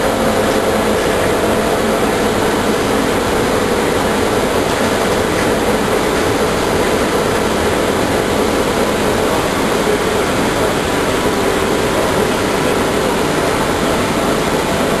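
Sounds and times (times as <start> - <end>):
shuttle train running noise: 0.0 - 15.0.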